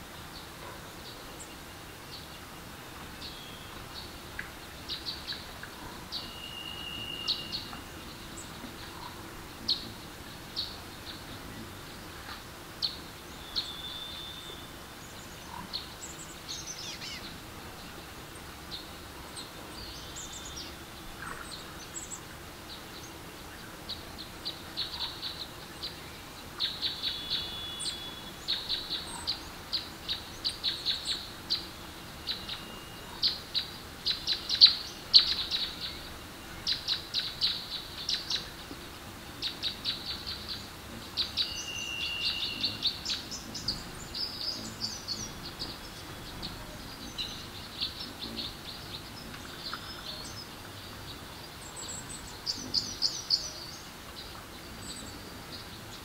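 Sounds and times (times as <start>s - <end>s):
birds chirping: 0.0s - 56.0s
faint steady hiss: 0.0s - 56.0s.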